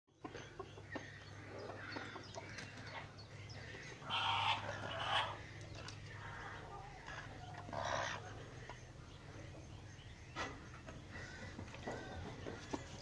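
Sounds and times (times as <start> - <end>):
hens clucking softly: 0.1 - 13.0.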